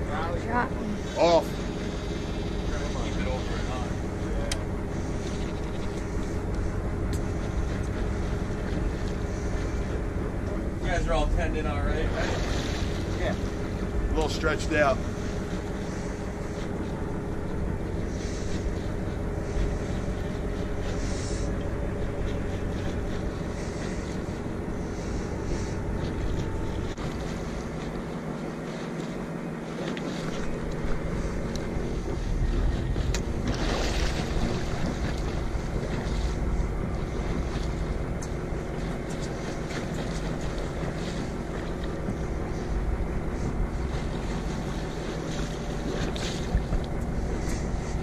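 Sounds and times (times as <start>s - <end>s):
boat engine idling: 0.0s - 48.0s.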